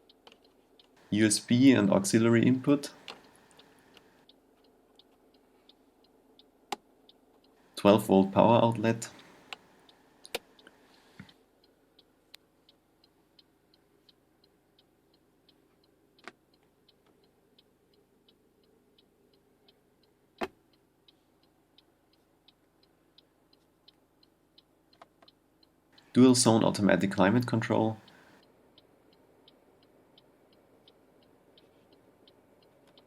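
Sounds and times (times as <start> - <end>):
faint steady ticking: 0.0 - 33.0.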